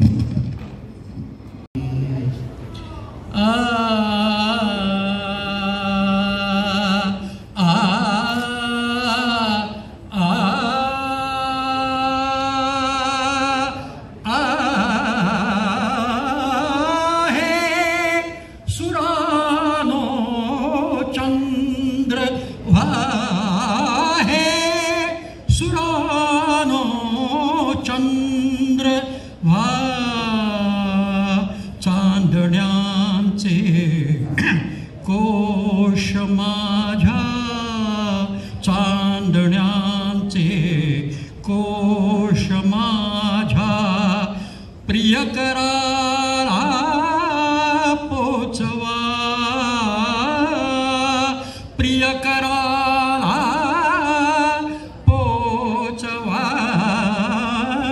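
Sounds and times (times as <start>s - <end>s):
man singing into microphone: 2.8s - 57.9s.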